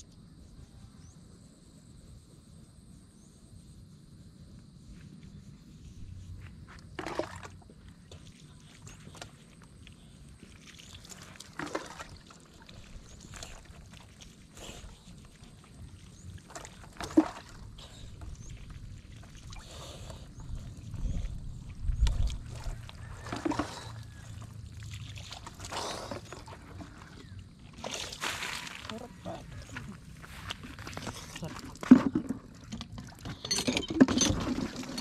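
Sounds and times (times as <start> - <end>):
water pouring and splashing: 6.9 - 35.0.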